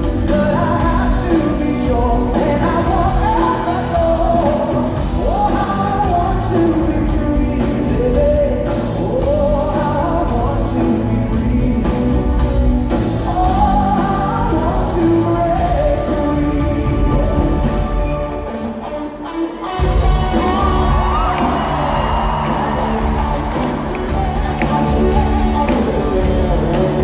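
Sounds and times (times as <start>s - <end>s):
man singing lead vocals: 0.0s - 18.2s, 20.3s - 27.0s
live rock band playing: 0.0s - 27.0s.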